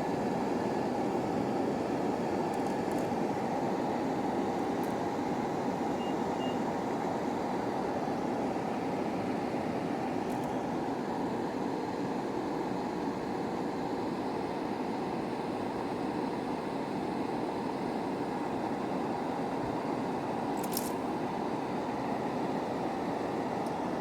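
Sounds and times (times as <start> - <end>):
steady rushing fan noise: 0.0 - 24.0.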